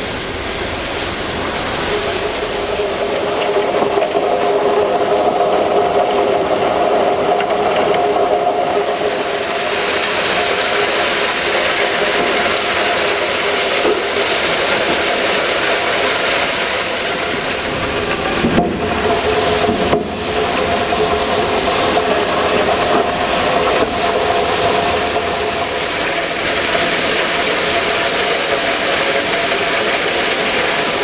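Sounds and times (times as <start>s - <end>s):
train rattling on the track: 0.0s - 31.0s.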